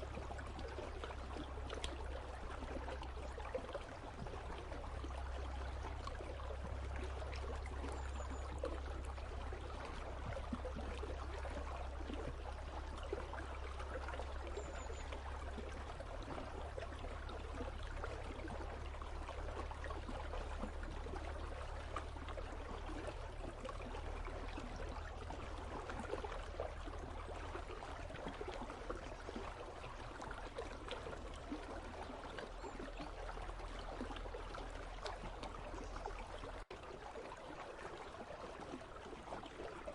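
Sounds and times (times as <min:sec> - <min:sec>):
low water rumble: 0:00.0 - 0:39.9
river water gurgling: 0:00.0 - 0:39.9.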